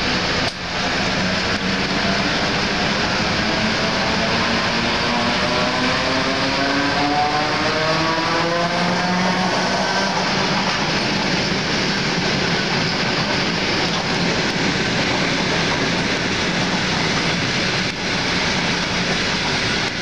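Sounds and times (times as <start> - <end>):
electric train motor whine: 0.0 - 20.0
train rumbling on rails: 0.0 - 20.0.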